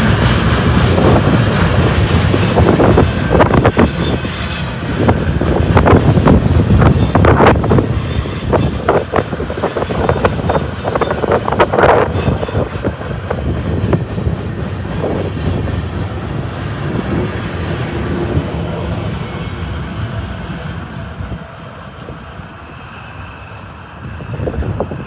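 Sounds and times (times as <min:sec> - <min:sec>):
freight train rumble: 0:00.0 - 0:25.0
train wheels clanking and squealing: 0:00.0 - 0:25.0
wind buffeting microphone: 0:00.0 - 0:25.0.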